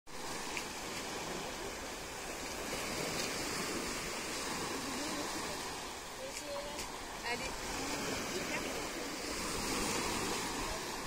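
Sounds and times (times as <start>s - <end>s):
waves washing over rocky shore: 0.1s - 11.0s.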